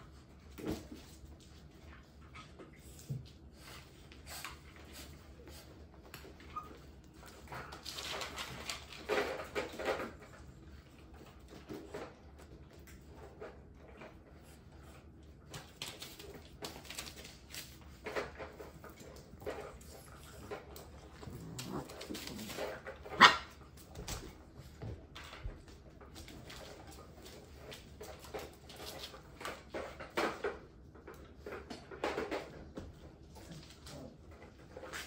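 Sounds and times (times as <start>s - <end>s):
puppies scuffling on hard floor: 0.0s - 35.0s.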